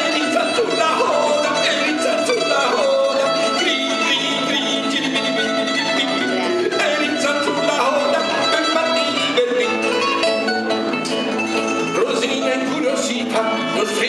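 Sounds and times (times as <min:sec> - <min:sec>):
plucked lyre guitar melody: 0:00.0 - 0:14.0.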